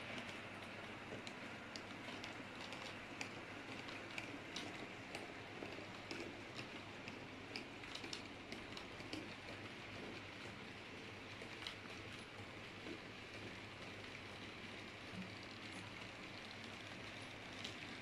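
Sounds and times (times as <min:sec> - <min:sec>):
wheels clicking over track joints: 0:00.0 - 0:18.0.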